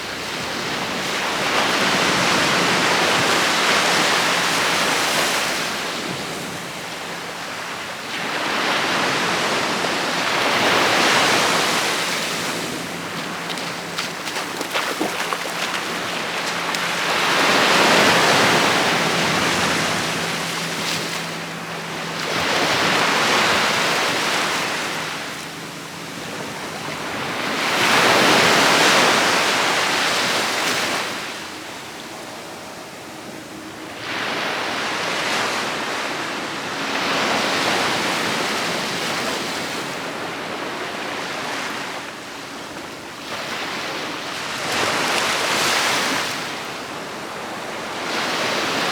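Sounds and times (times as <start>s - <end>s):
waves breaking on a beach: 0.0s - 48.9s.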